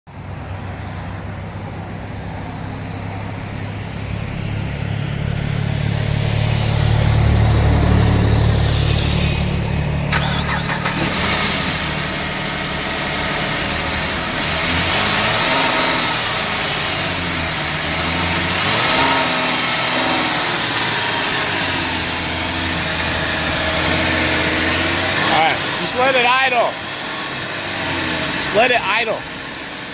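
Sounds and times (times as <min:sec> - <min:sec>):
car engine revving: 0:04.3 - 0:29.9.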